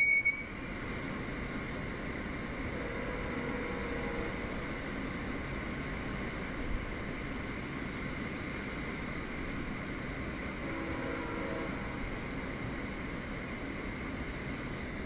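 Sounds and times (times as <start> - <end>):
idling train hum and hiss: 0.0 - 15.0.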